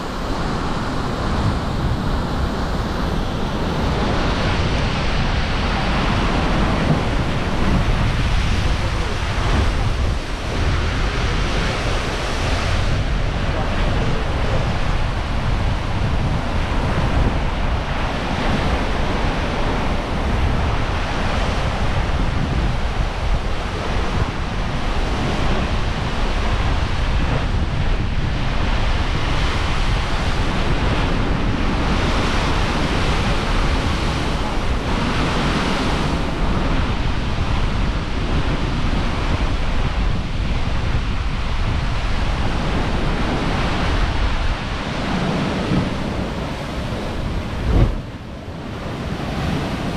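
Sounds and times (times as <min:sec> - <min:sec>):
surf crashing against cliffs: 0:00.0 - 0:49.9
wind buffeting microphone: 0:00.0 - 0:49.9.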